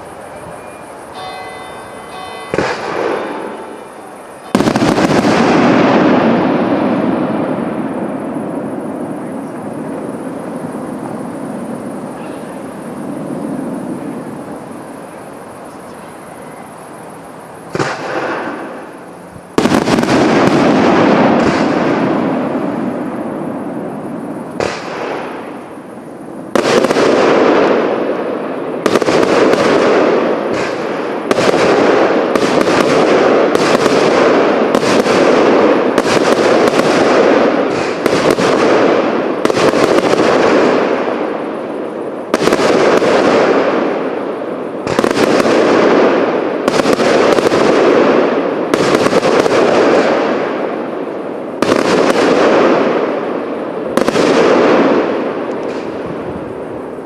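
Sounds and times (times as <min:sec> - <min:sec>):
fireworks shots: 0:00.0 - 0:57.0.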